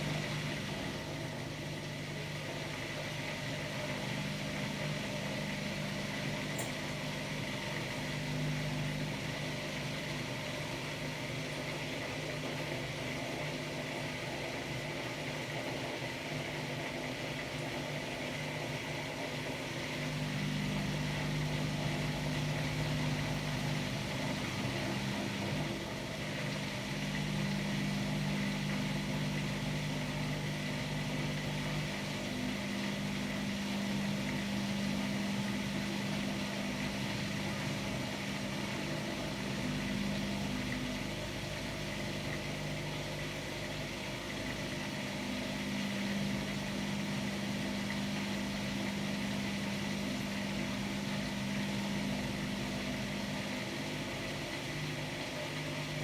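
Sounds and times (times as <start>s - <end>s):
washer-dryer hum: 0.0s - 56.0s.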